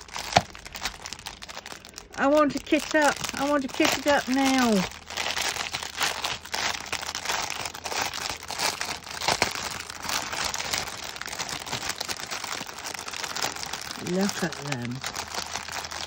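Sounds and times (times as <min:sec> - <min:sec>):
plastic wrap crinkling: 0:00.0 - 0:16.0.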